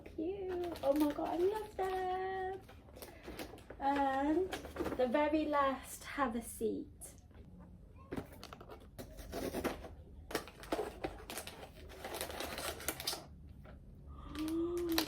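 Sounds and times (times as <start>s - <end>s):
packaging clicks and crinkling: 0.0s - 5.2s, 8.1s - 15.0s.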